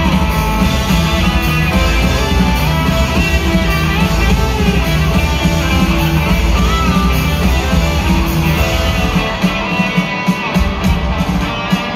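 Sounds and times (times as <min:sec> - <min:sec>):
electric guitar: 0:00.0 - 0:11.9
live rock band: 0:00.0 - 0:11.9.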